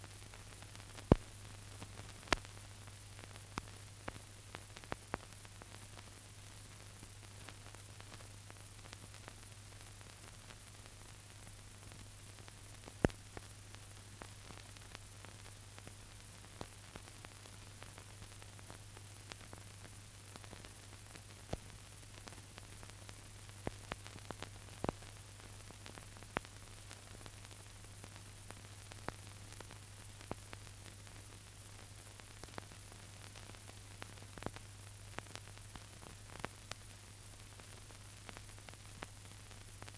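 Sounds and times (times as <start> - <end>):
film track hiss: 0.0 - 39.9.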